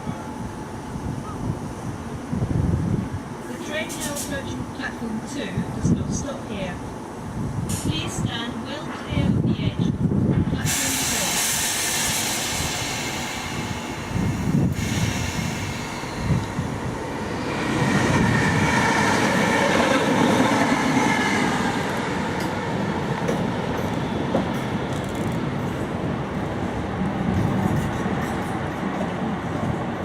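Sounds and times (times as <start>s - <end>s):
passenger train passing: 0.0s - 30.0s.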